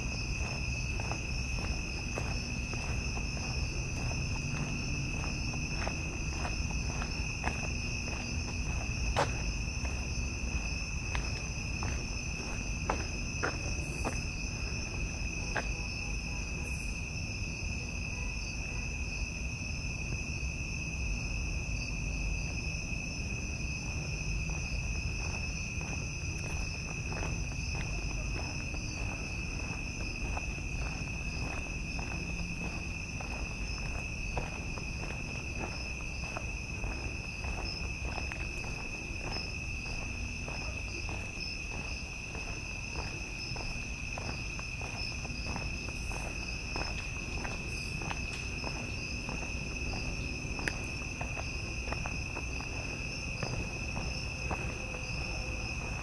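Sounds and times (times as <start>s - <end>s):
footsteps: 0.0s - 16.0s, 22.4s - 56.0s
crickets chirping: 0.0s - 56.0s.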